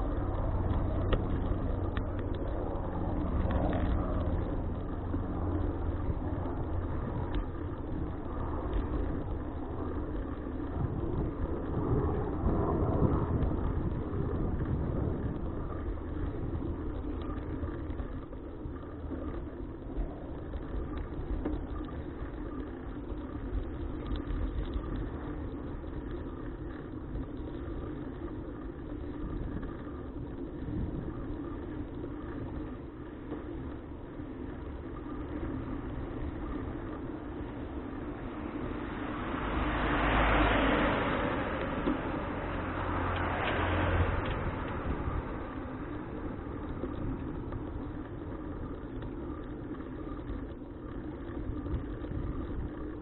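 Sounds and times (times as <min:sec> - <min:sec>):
bicycle road noise: 0:00.0 - 0:53.0
wind rumble: 0:00.0 - 0:53.0.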